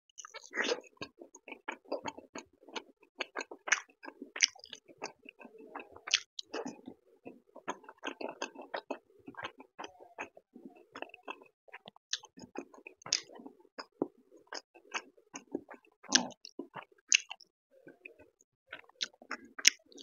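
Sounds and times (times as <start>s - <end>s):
person chewing wetly: 0.2s - 20.0s.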